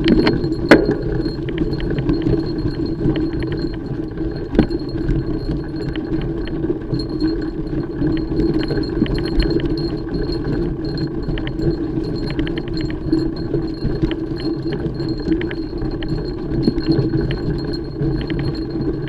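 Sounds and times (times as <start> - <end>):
bike chain and frame rattling: 0.0 - 19.0.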